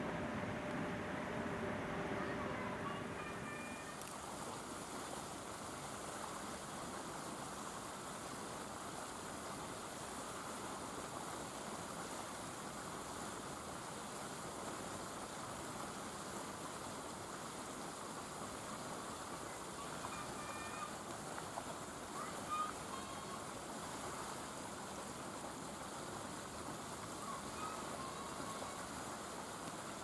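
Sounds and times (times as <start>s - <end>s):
room noise hiss: 0.0s - 30.0s.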